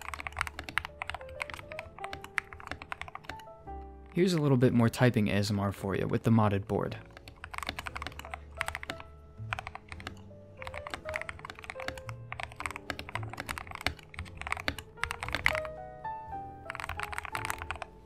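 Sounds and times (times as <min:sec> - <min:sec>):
mechanical keyboard typing: 0:00.0 - 0:05.0, 0:07.0 - 0:15.8, 0:16.6 - 0:18.0
light background music: 0:00.0 - 0:18.0.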